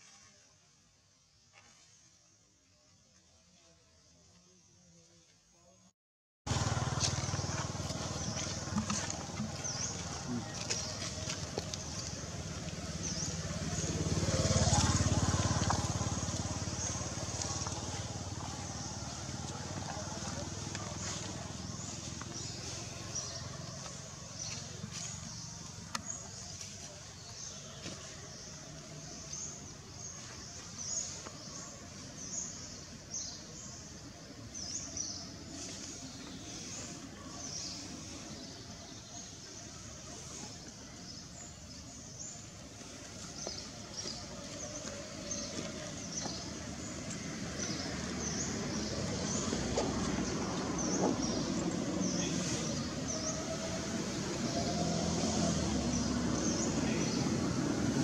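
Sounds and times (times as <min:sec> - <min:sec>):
small birds chirping: 0:06.5 - 0:58.0.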